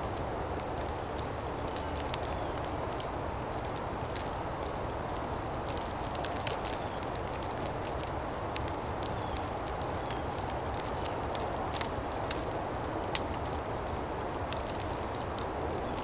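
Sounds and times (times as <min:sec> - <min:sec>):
icy snow ticking on leaves: 0:00.0 - 0:16.0
wind through woods: 0:00.0 - 0:16.0.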